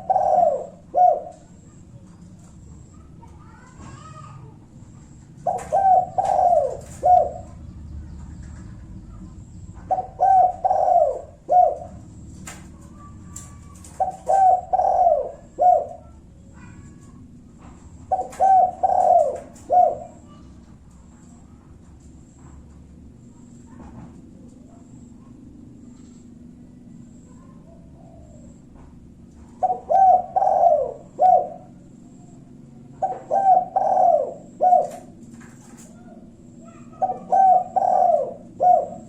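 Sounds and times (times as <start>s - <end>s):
dove cooing: 0.0s - 22.3s, 23.0s - 39.0s.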